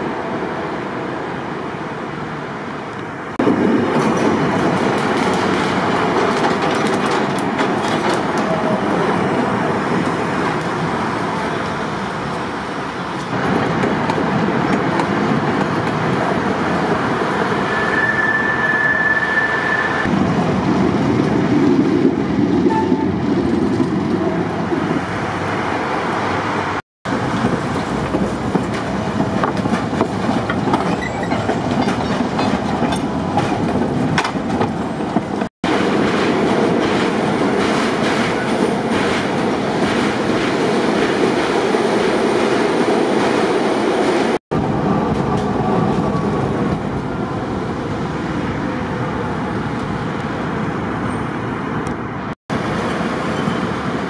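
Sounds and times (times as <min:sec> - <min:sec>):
tram wheels rumbling on rails: 0:00.0 - 0:54.0.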